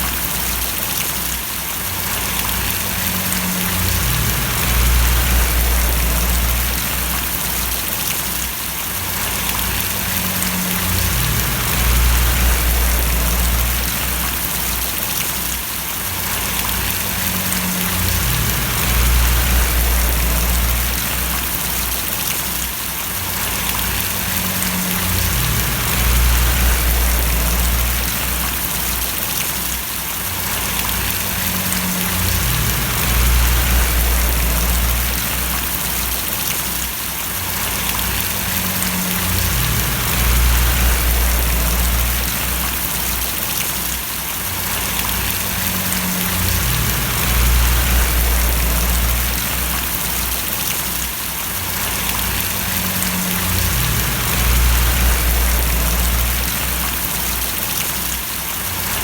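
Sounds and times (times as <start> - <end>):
steady rain falling: 0.0 - 59.0
low rumble: 2.1 - 8.1, 9.1 - 14.9, 16.3 - 22.3, 23.2 - 29.2, 30.5 - 36.5, 37.5 - 43.4, 44.7 - 50.7, 51.7 - 57.6.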